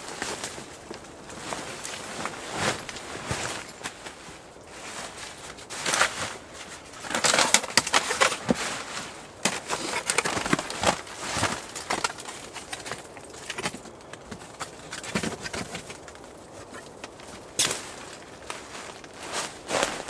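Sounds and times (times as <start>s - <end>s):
rubber boots on plastic sheet: 0.0s - 20.0s
aluminium foil crinkling: 2.7s - 20.0s.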